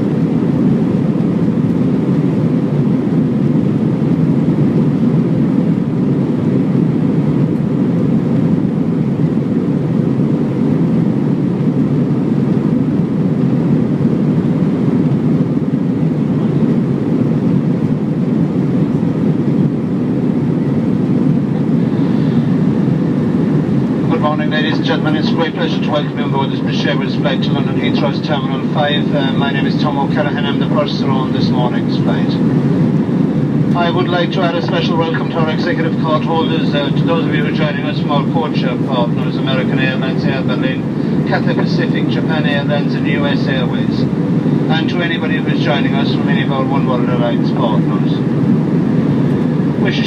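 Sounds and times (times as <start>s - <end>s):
airliner cabin engine rumble: 0.0s - 50.0s.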